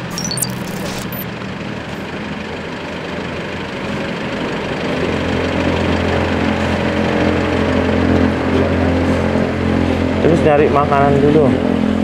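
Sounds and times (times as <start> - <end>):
vehicle engine idling: 1.2 - 11.1.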